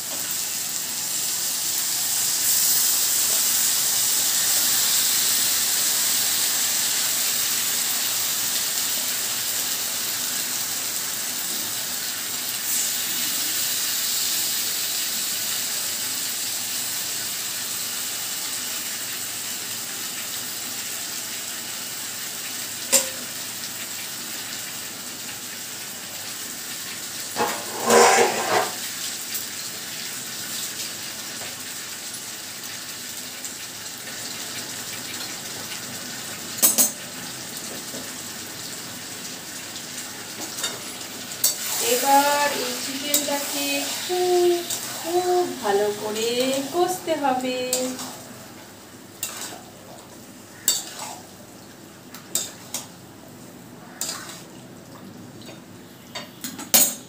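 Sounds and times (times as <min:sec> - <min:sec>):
chicken sizzling in hot pan: 0:00.0 - 0:54.8.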